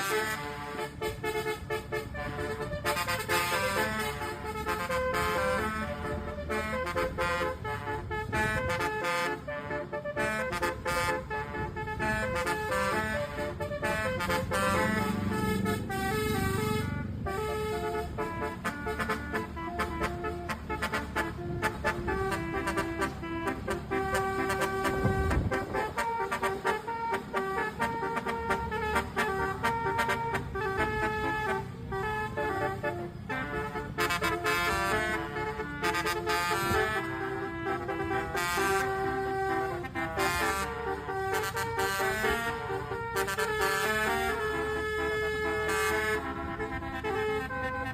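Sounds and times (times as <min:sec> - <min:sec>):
bus horn playing a tune: 0:00.0 - 0:47.9.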